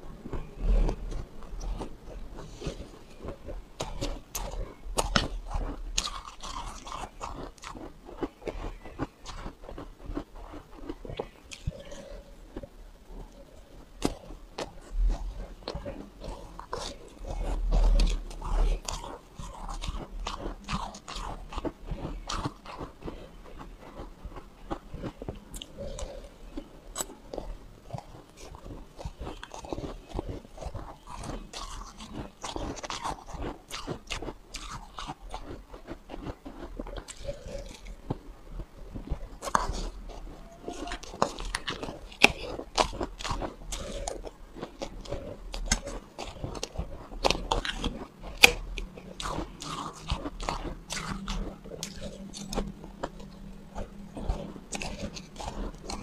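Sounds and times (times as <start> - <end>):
chewing shaved ice crunches: 0.0 - 56.0.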